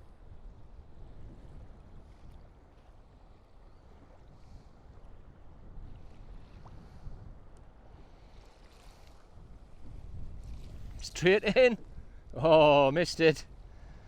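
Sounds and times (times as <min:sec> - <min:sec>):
wind buffeting microphone: 0:00.0 - 0:14.0
waves lapping against hull: 0:00.1 - 0:12.9.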